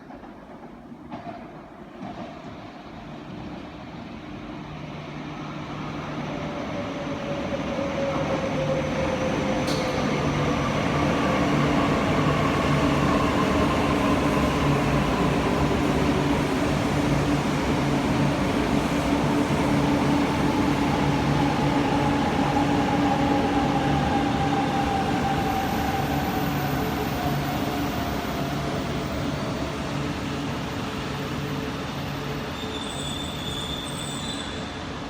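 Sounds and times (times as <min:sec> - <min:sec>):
train running on rails: 0:00.0 - 0:35.0
train whine: 0:02.6 - 0:35.0.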